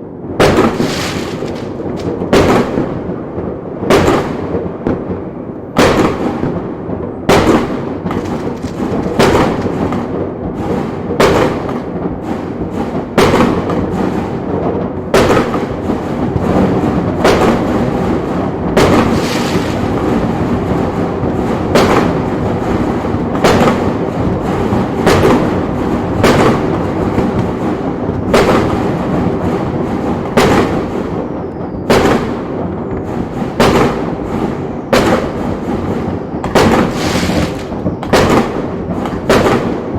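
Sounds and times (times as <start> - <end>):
fireworks bangs: 0.0 - 39.9
fireworks rumble and crackle: 0.0 - 39.9.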